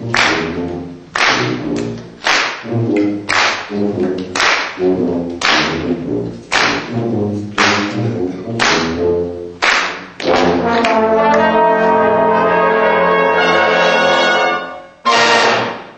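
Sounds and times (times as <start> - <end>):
brass band playing a march: 0.0 - 15.9.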